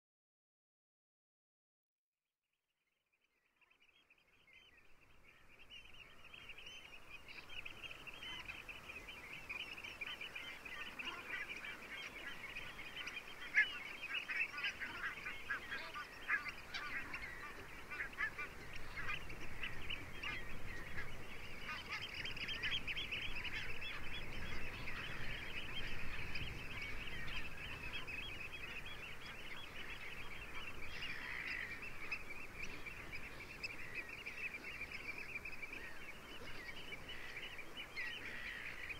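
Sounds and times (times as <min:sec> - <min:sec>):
geese calling: 0:05.4 - 0:38.9.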